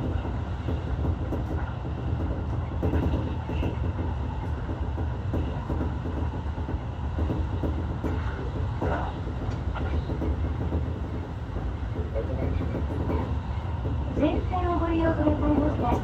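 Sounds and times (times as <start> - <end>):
train knocks: 0.0 - 16.0
wheels rumbling on rails: 0.0 - 16.0.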